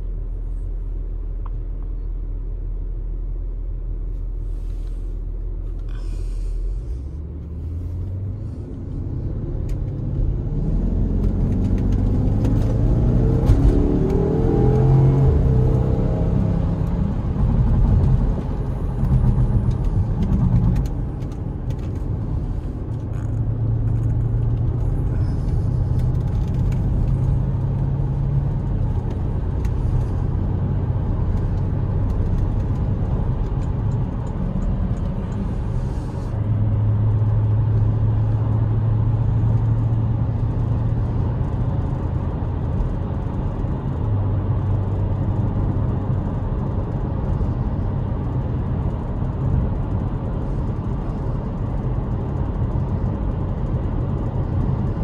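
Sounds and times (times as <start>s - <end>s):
car engine accelerating: 5.6s - 55.0s.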